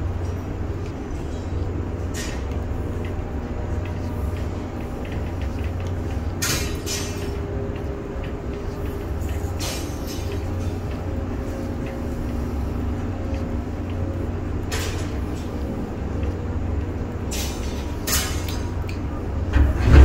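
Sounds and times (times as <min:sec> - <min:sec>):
crane machinery humming: 0:00.0 - 0:20.0.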